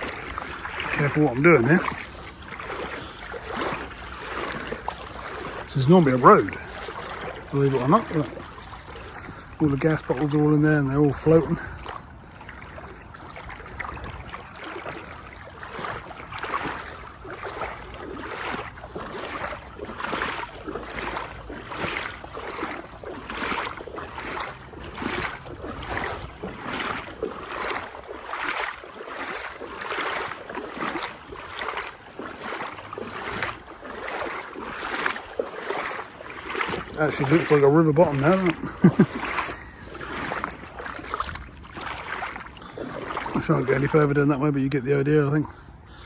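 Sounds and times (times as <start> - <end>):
wading through water: 0.0 - 46.0.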